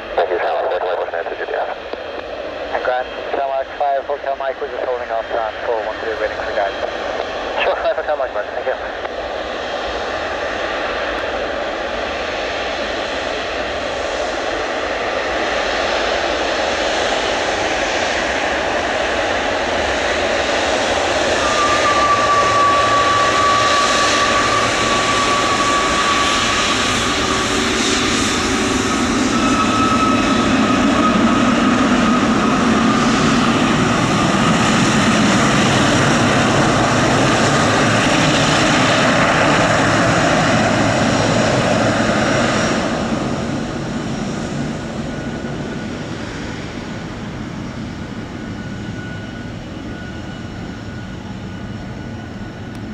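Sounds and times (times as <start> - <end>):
high engine whine: 0.0 - 52.9
jet engines rushing: 0.0 - 52.9.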